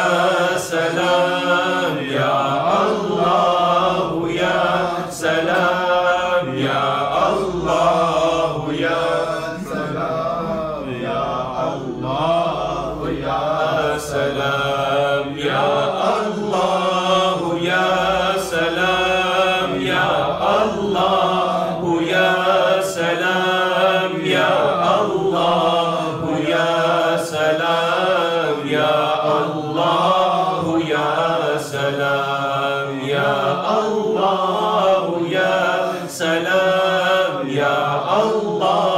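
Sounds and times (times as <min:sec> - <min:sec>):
man chanting into a microphone: 0:00.0 - 0:38.9.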